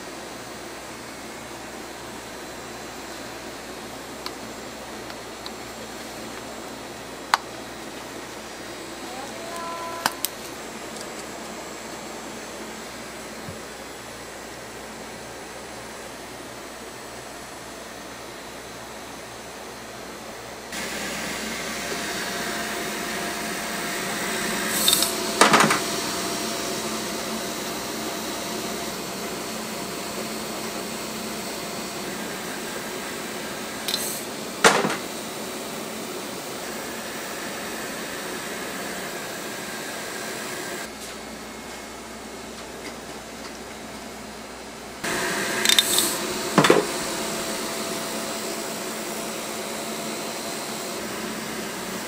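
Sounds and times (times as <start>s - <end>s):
cotton candy machine humming: 0.0s - 52.0s.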